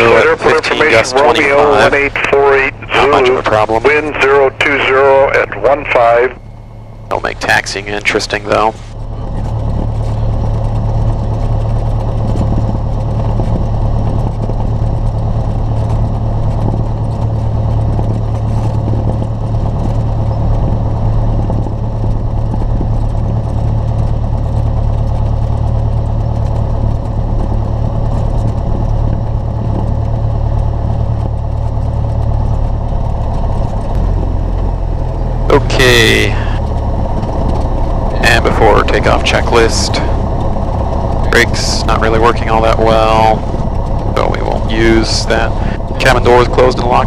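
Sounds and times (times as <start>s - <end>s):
plane piston engine droning: 0.0s - 47.0s.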